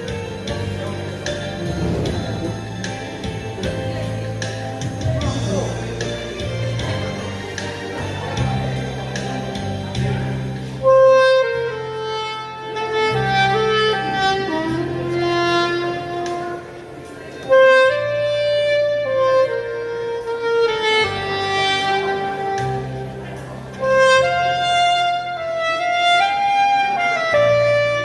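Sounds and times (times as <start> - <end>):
backing track with bass notes: 0.0 - 28.0
saxophone ballad melody: 0.0 - 28.0.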